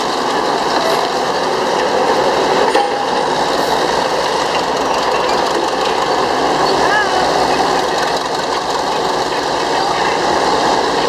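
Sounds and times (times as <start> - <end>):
diesel engine and gears running: 0.0 - 11.0.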